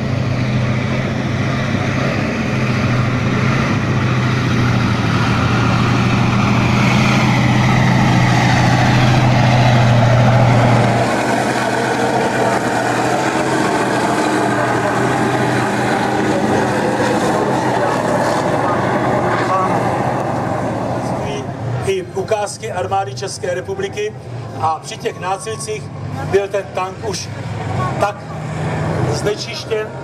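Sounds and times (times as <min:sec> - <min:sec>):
tank diesel engine driving past: 0:00.0 - 0:30.0.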